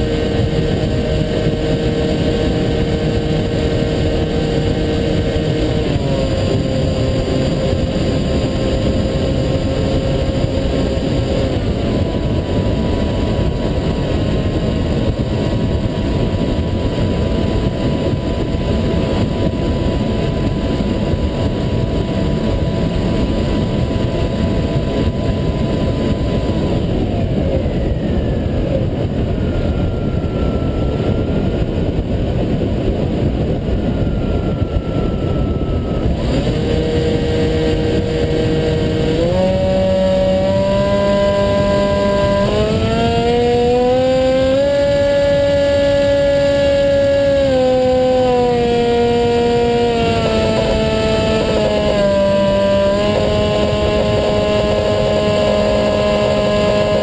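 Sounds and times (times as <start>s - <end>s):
electric motor and propeller whine: 0.0s - 57.0s
wind rushing on microphone: 0.0s - 57.0s.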